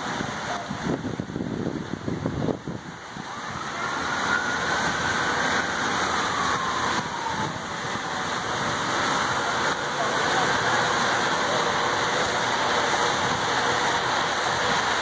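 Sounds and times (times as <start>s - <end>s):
fountain water rushing: 0.0s - 15.0s.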